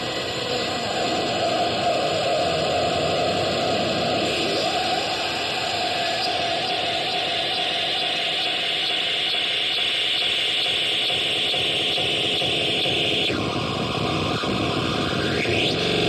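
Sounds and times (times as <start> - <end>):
sound machine steady hiss: 0.0 - 16.0.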